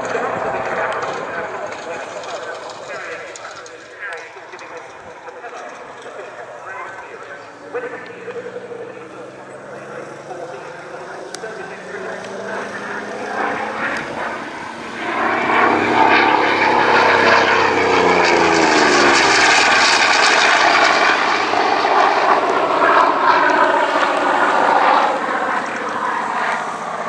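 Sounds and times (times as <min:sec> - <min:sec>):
propeller aircraft flying past: 0:00.0 - 0:27.0.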